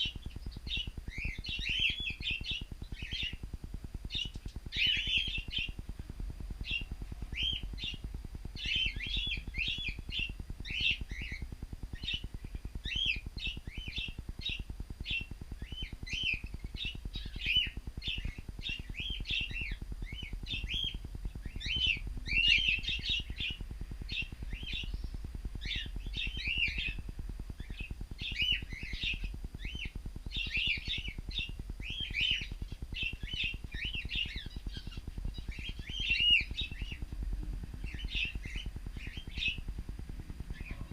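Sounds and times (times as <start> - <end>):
birds chirping: 0.0 - 40.9
low steady hum: 0.0 - 40.9.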